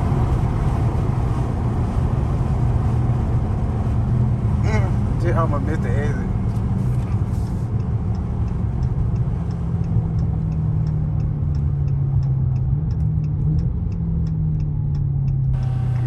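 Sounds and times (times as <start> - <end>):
car engine droning while cruising: 0.0 - 16.0
turn signal ticking: 0.0 - 16.0.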